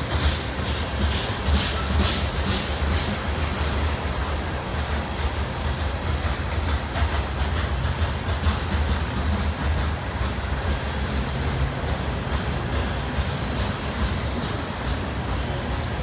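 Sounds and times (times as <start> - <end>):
train cars rumbling: 0.0 - 16.0
wheel clicks over rail joints: 0.0 - 16.0.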